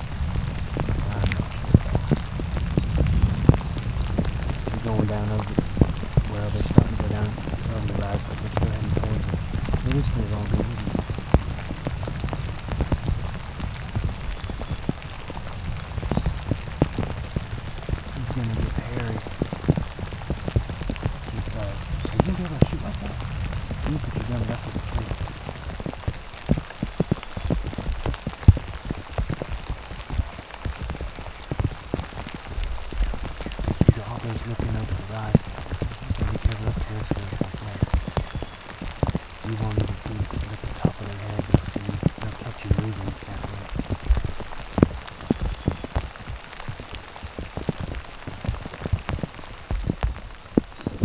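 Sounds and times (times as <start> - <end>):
rain falling: 0.0 - 51.0
raindrops tapping: 0.0 - 51.0.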